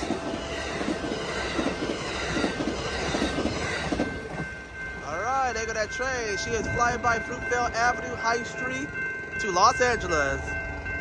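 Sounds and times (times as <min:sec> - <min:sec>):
train clattering knocks: 0:00.0 - 0:10.2
train wheels rumbling on rails: 0:00.0 - 0:11.0.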